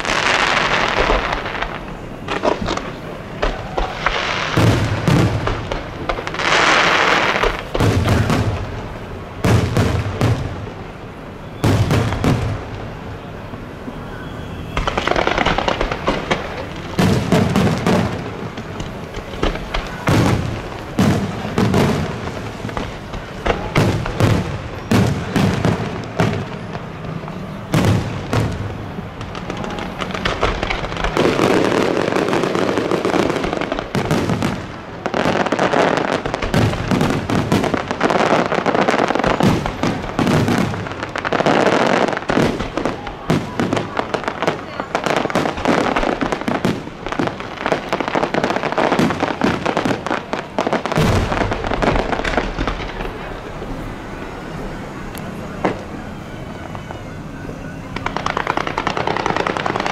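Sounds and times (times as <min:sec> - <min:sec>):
fireworks bursting bangs: 0:00.0 - 0:59.9
fireworks crackling: 0:00.0 - 0:59.9.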